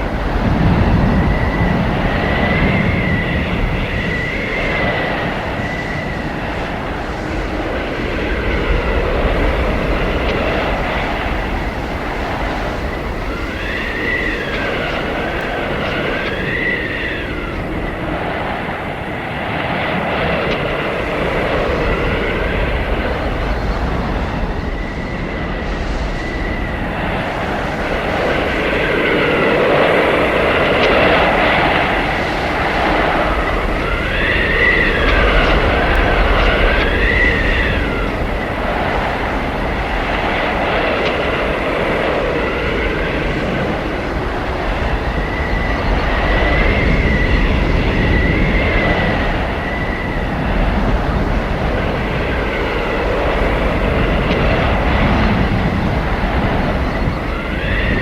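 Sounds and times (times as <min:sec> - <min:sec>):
howling blizzard wind: 0:00.0 - 0:58.0.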